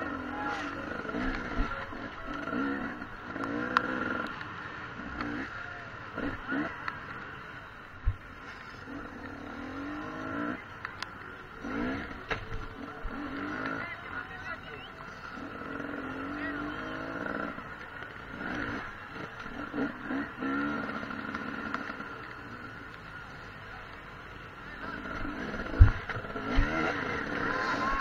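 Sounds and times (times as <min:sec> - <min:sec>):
dirt bike engine revving: 0:00.0 - 0:07.4, 0:08.2 - 0:10.8, 0:11.5 - 0:23.2, 0:24.4 - 0:28.0.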